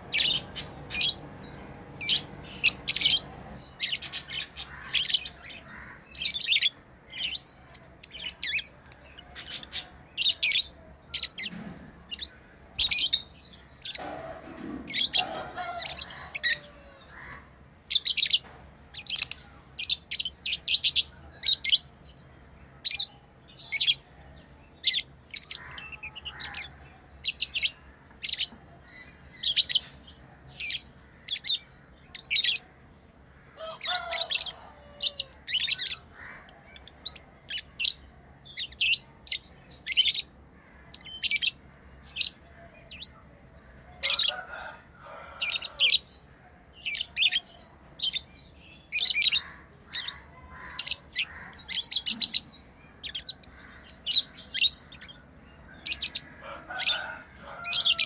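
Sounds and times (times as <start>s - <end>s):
birds softly chattering: 0.0s - 58.0s
lovebirds chirping: 0.0s - 58.0s.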